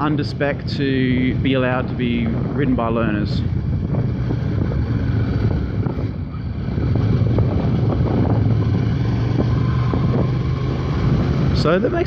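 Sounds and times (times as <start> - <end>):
motorcycle engine running: 0.0 - 12.0
road noise: 0.0 - 12.0
wind noise: 0.0 - 12.0.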